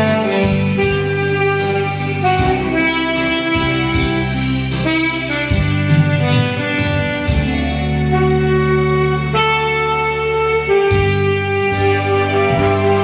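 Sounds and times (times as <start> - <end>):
bass line and steady beat: 0.0 - 13.0
saxophone playing slow melody: 0.0 - 13.0.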